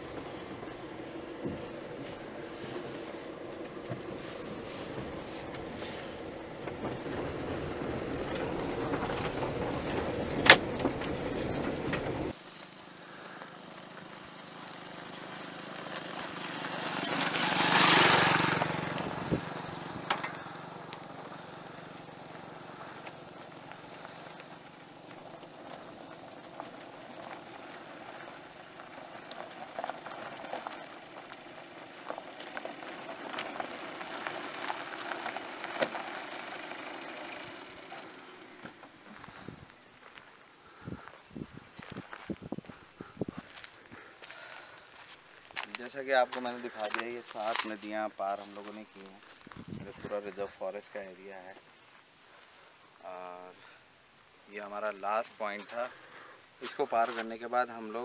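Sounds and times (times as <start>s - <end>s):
vehicle driving on rough track: 0.0s - 58.0s.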